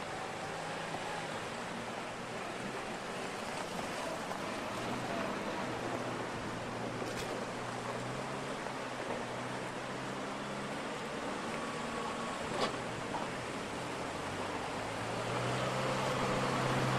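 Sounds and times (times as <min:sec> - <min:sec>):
river rushing: 0:00.0 - 0:16.9.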